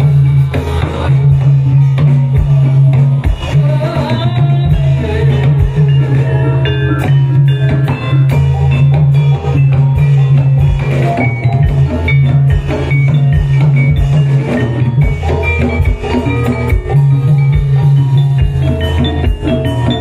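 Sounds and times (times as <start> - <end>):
drums striking: 0.0 - 20.0
melodic pitched instruments: 0.0 - 20.0.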